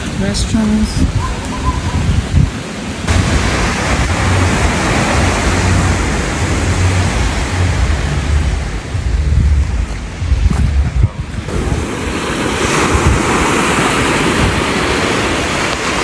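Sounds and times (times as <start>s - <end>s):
surf washing on beach: 0.0s - 16.0s
wind rumbling on microphone: 0.0s - 16.0s.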